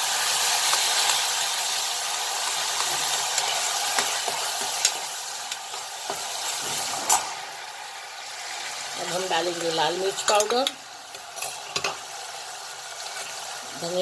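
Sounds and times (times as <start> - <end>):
frying sizzle: 0.0 - 14.0.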